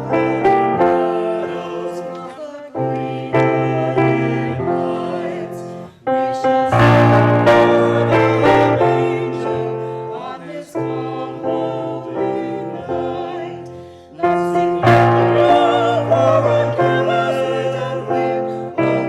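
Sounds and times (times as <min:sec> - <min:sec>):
piano playing slow chords: 0:00.0 - 0:19.0
singers holding notes: 0:00.0 - 0:19.0.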